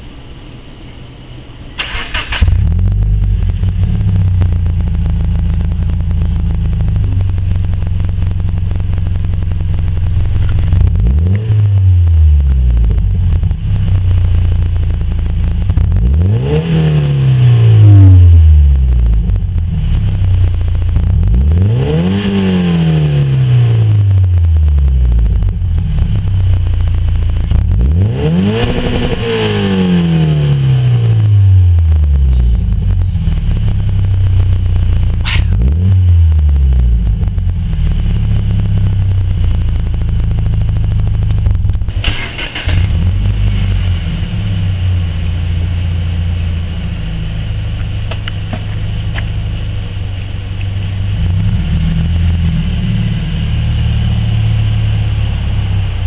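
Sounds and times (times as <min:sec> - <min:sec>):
car engine idling and revving: 0:00.0 - 0:56.0
car engine starting: 0:00.0 - 0:56.0.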